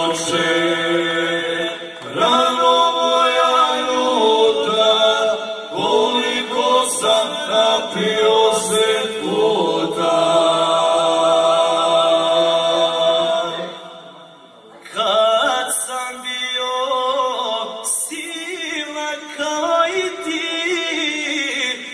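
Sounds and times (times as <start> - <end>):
men singing in harmony: 0.0 - 21.9.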